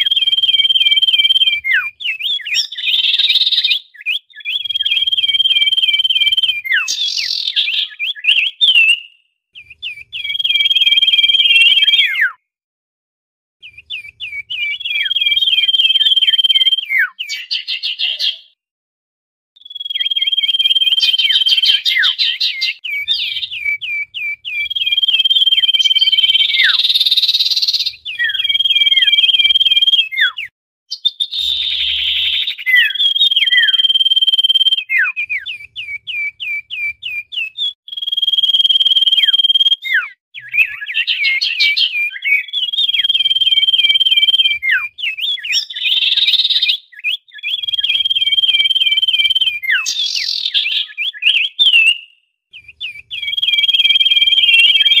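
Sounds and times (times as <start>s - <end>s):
bird whistling and chattering: 0.0s - 12.4s, 13.6s - 18.6s, 19.6s - 55.0s.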